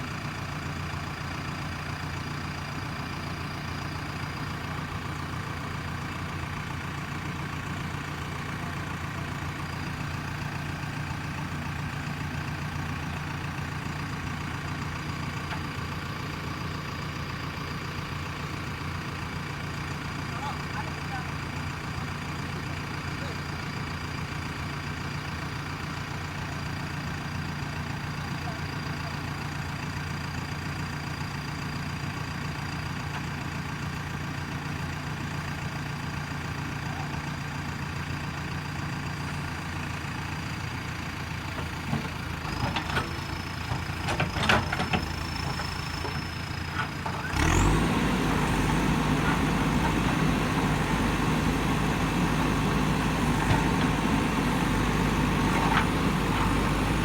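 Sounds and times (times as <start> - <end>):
diesel engine idling and revving: 0.0 - 57.0.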